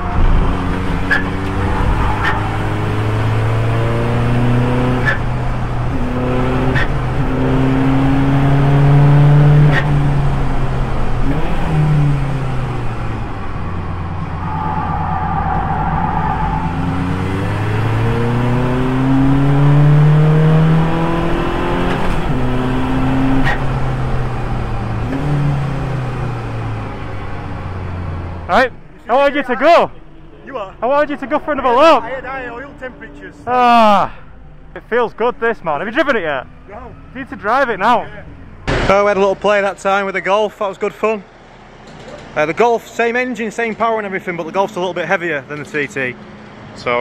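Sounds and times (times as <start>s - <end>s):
race car engine pulling hard: 0.0s - 40.6s.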